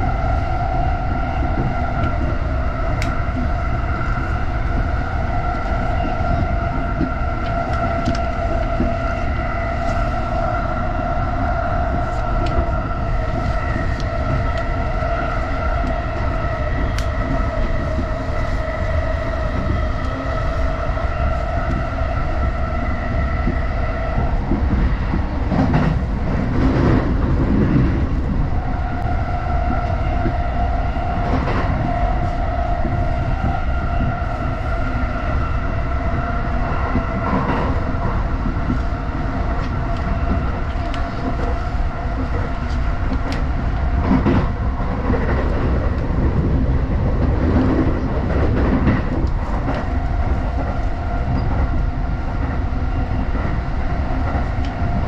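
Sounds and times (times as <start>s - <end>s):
rush of rumbling noise: 0.0s - 55.0s
train wheels rumbling on track: 0.0s - 55.0s.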